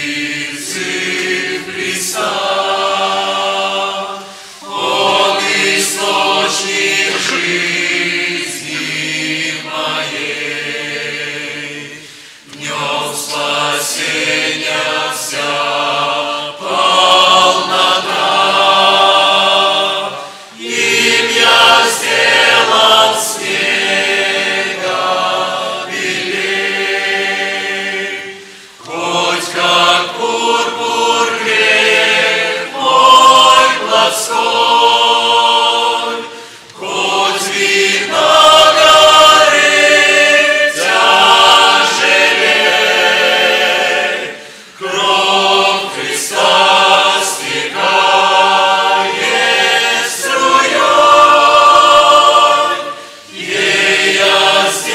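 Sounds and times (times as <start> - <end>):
church choir singing a hymn: 0.0 - 54.9.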